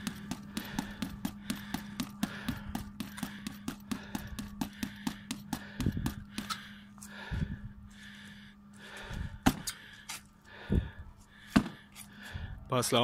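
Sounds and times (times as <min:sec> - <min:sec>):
hard breathing: 0:00.0 - 0:12.7.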